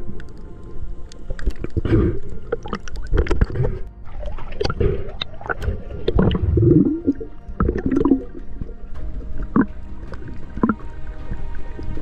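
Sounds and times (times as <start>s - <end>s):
sharp underwater clicks: 0.0s - 12.0s
underwater gurgling and rumbles: 0.0s - 12.0s.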